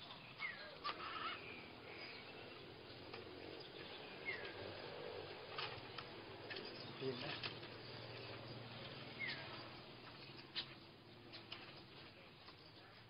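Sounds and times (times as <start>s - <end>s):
bird chirping: 0.0s - 13.0s
faint outdoor background noise: 0.0s - 13.0s.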